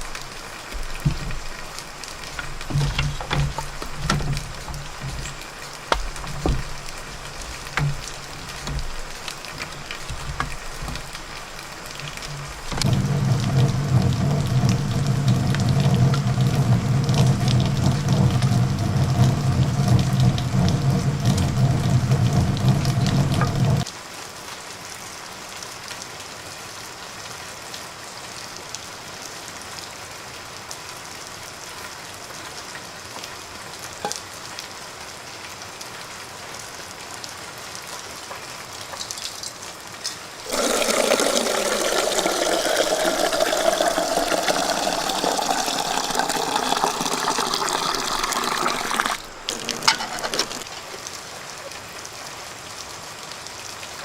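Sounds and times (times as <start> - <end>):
loud rush of water: 0.0 - 39.1, 39.7 - 54.0
hiss of falling water: 0.0 - 54.0.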